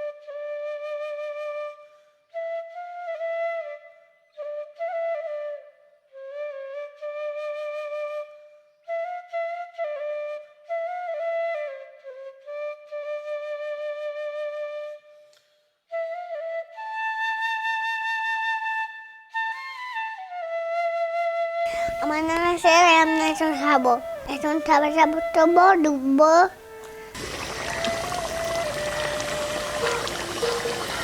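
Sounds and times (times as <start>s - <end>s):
solo flute melody: 0.0s - 15.3s, 15.9s - 24.3s, 26.6s - 31.0s.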